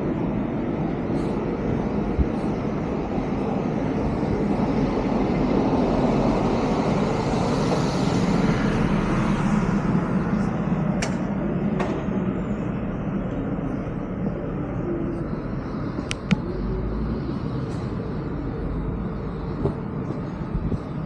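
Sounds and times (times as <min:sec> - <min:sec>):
vehicle passing on street: 0:00.0 - 0:21.0.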